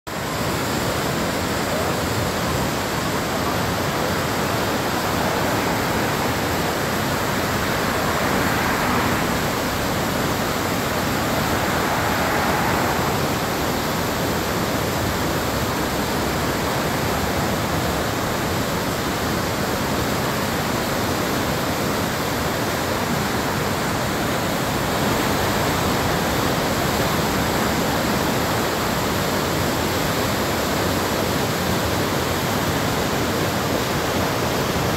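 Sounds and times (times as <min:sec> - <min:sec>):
water rushing over rocks: 0:00.1 - 0:34.9.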